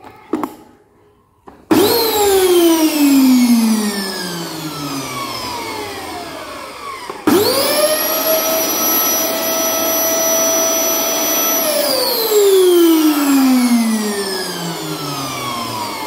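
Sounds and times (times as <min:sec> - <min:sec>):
vacuum cleaner motor whine: 0:01.7 - 0:16.0.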